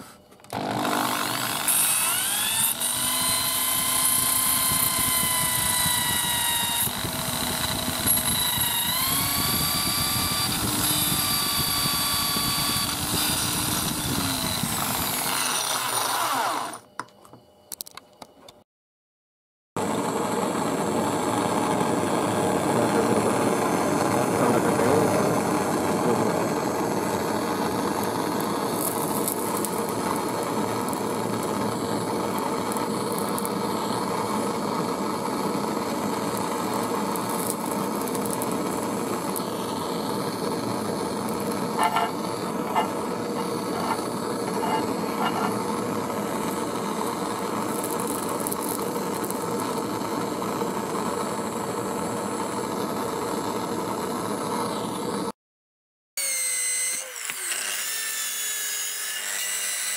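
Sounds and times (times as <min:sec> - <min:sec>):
gas torch hissing: 0:00.0 - 0:16.8, 0:19.8 - 0:55.3.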